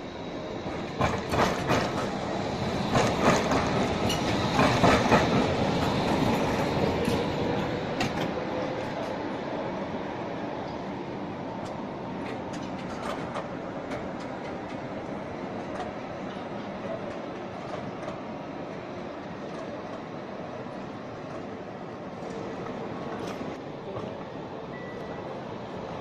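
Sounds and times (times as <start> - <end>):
tram rolling rumble: 0.0 - 26.0.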